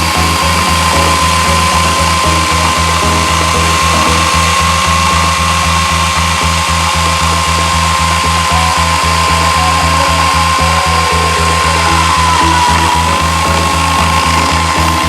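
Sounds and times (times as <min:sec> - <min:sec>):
background music with steady beat: 0:00.0 - 0:15.0
electric chainsaw motor whine: 0:00.0 - 0:15.0.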